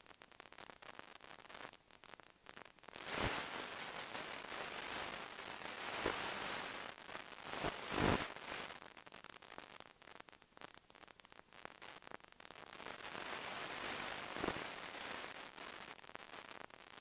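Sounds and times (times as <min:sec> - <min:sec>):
crackling static: 0:00.0 - 0:17.0.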